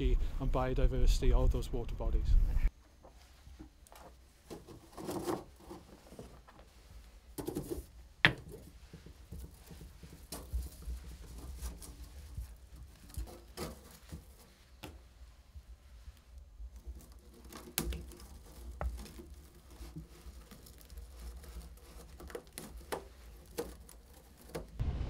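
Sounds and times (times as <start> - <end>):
objects clicking and scraping: 3.1 - 24.8.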